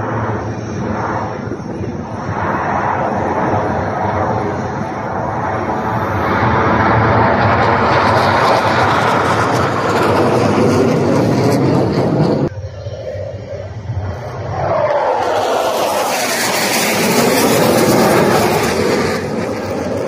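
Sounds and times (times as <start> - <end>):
jets flying overhead: 0.0 - 20.0.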